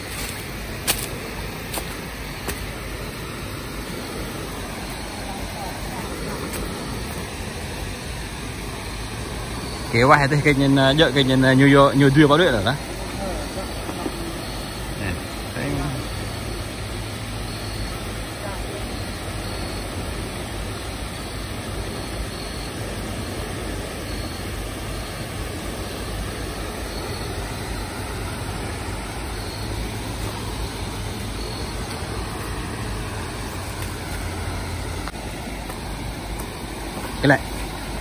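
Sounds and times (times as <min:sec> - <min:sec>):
water rushing over dam spillway: 0:00.0 - 0:38.0.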